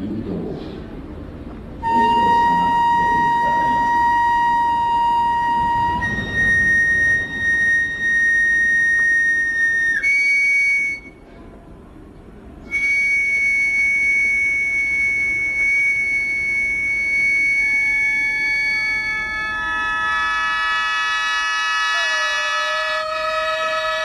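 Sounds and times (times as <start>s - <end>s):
flute-like wind instrument: 1.8s - 11.6s, 12.6s - 24.0s.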